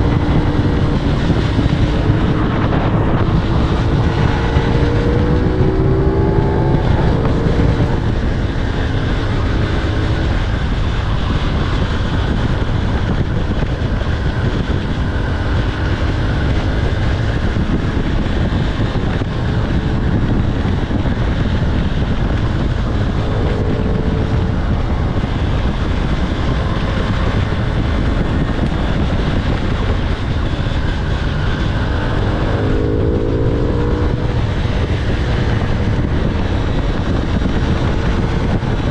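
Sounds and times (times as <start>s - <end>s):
motorcycle engine revving: 0.0s - 38.9s
wind rush on microphone: 0.0s - 38.9s.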